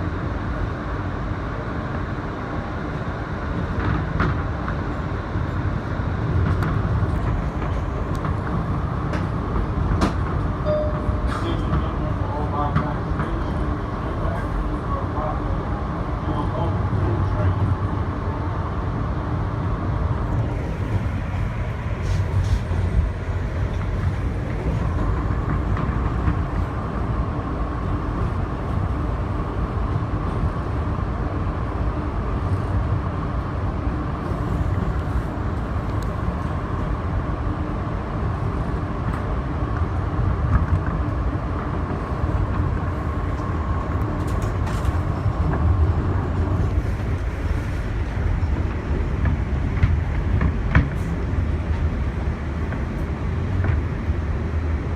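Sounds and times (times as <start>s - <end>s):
train wheels rumbling on rail: 0.0s - 54.9s
train whine: 0.0s - 54.9s.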